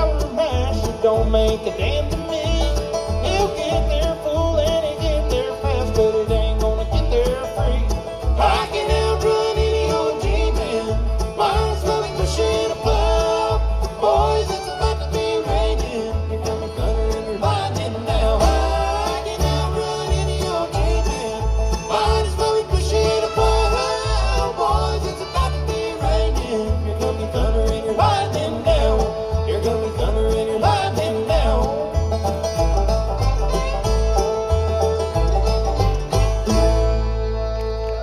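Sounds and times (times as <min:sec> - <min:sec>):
bass line: 0:00.0 - 0:38.0
country band playing: 0:00.0 - 0:38.0.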